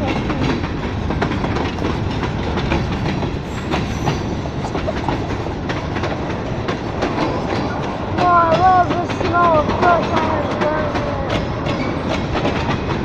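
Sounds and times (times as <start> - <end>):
freight train rumbling past: 0.0 - 13.0
wheels clacking over rail joints: 0.0 - 13.0.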